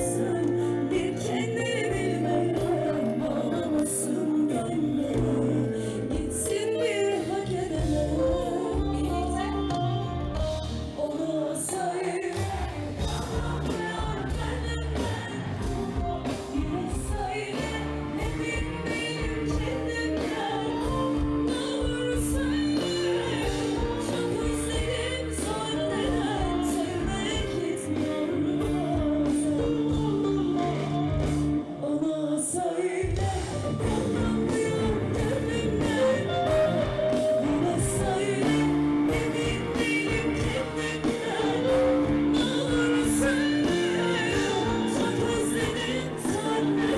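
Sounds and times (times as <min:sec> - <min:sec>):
bass: 0:00.0 - 0:11.4, 0:12.3 - 0:32.0, 0:33.0 - 0:46.9
drums: 0:00.0 - 0:46.9
electric guitar: 0:00.0 - 0:46.9
live band playing: 0:00.0 - 0:46.9
woman singing: 0:00.0 - 0:46.9.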